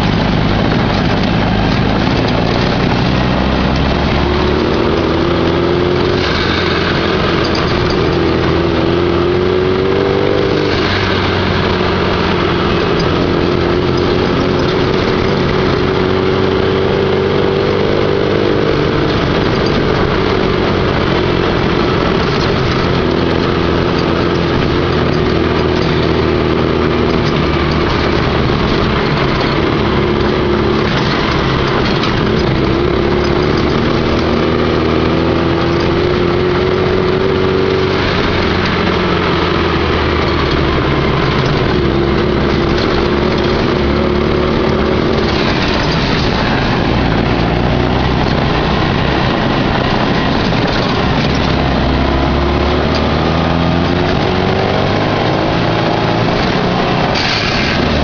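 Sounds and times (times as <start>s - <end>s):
buggy engine running: 0.0s - 58.0s
wind and road noise: 0.0s - 58.0s.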